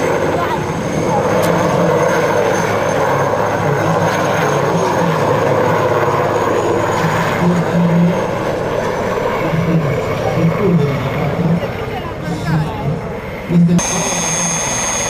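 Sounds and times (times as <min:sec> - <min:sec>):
helicopter rotor and engine: 0:00.0 - 0:15.0
high turbine whine: 0:00.0 - 0:15.0.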